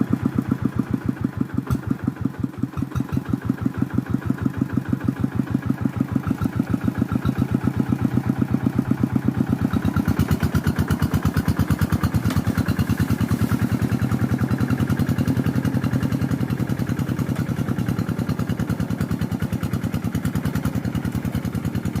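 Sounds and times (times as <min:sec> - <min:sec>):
engine running with pulsing beat: 0:00.0 - 0:22.0.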